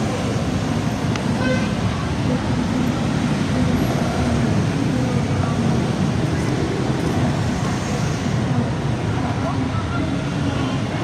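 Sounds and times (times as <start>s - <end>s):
road traffic din: 0.0s - 11.0s
voices: 1.8s - 11.0s.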